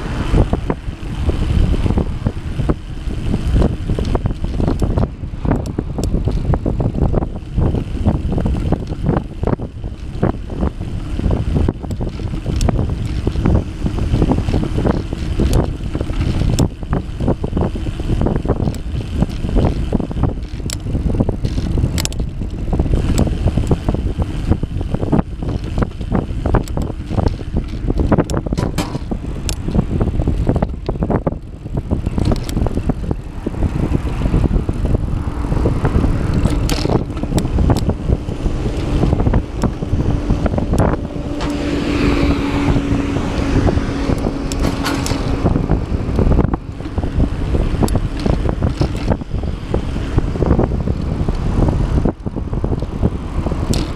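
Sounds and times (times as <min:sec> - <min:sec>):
wind buffeting microphone: 0:00.0 - 0:53.9
sharp rattling clicks: 0:00.4 - 0:41.8, 0:43.3 - 0:53.9.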